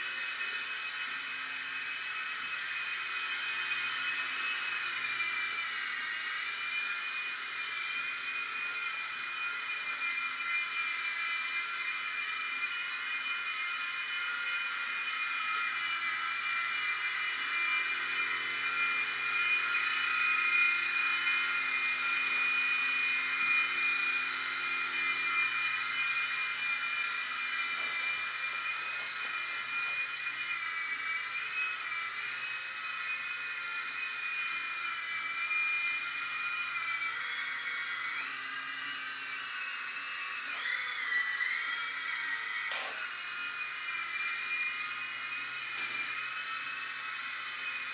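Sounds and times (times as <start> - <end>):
rotors whirring: 0.0 - 47.9
toy helicopter motor whine: 0.0 - 47.9.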